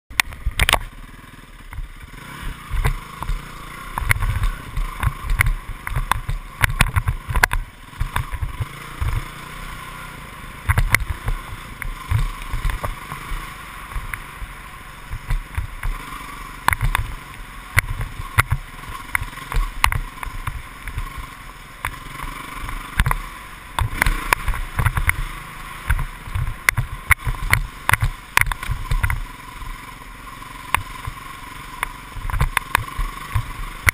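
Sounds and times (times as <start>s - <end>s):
dirt bike engine running: 0.1s - 33.9s
knocks and thumps from riding: 1.6s - 9.6s, 10.6s - 29.3s, 30.7s - 33.9s.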